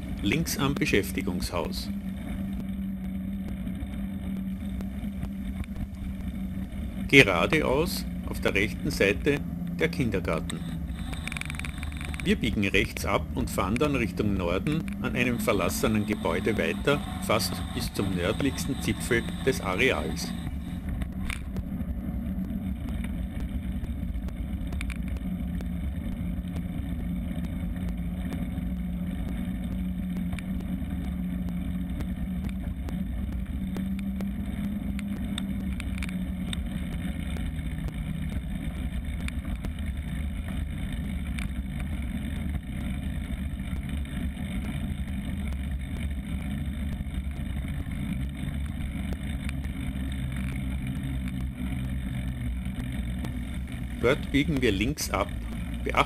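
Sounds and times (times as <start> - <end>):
bicycle tyres rolling on asphalt: 0.0 - 56.0
low hum: 0.0 - 56.0
wind: 0.0 - 56.0.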